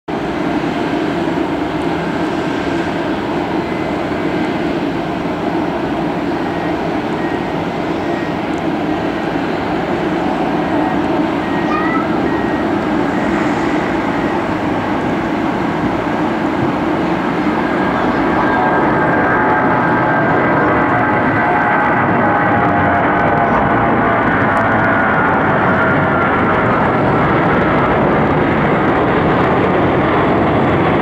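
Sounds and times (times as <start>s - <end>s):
jet engines rumbling at takeoff: 0.1s - 31.0s.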